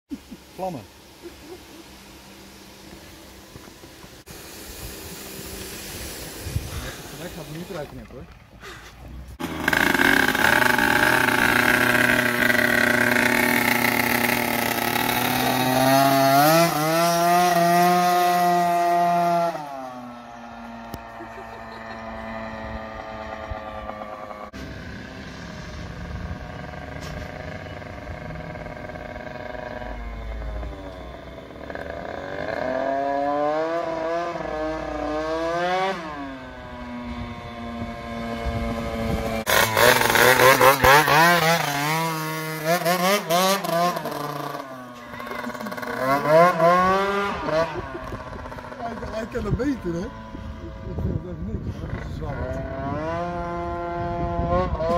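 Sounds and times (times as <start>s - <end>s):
two-stroke scooter engine revving: 9.1s - 54.9s.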